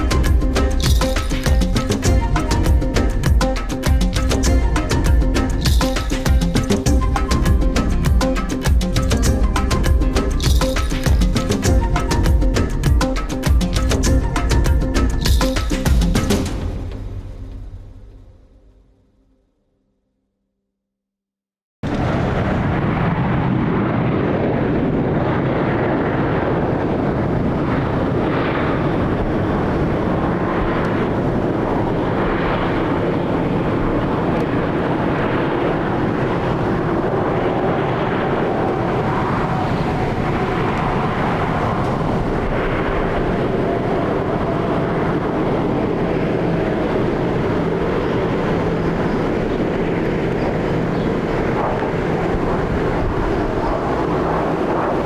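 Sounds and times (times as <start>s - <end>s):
jet engines running: 0.0s - 17.9s, 21.8s - 55.0s.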